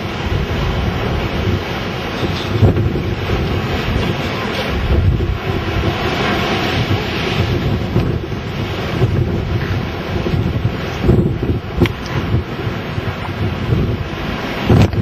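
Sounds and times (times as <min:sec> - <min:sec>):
storm wind buffeting microphone: 0:00.0 - 0:15.0
waves breaking on shore: 0:00.0 - 0:15.0.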